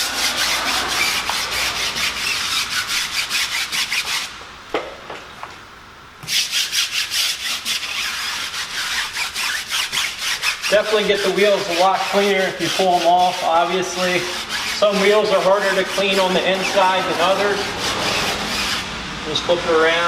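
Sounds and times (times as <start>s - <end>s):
brush scrubbing a wet wheel: 0.0s - 4.3s, 6.2s - 20.0s.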